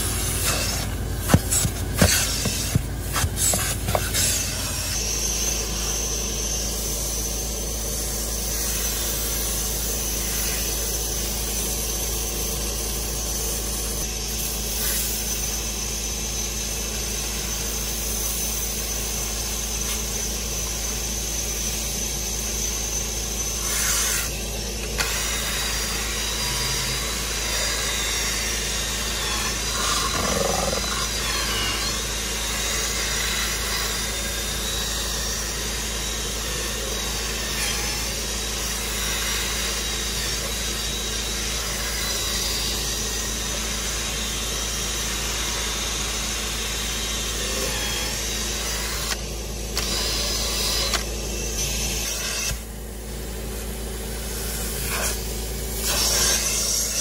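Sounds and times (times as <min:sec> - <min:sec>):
steady machine noise: 0:00.0 - 0:14.7, 0:15.3 - 0:57.0
drill spinning scrub brush on fabric: 0:00.0 - 0:57.0.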